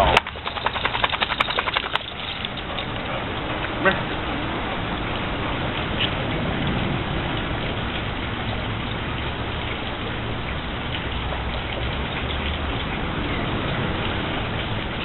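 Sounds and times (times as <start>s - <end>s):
water splashing onto concrete: 0.0s - 15.0s.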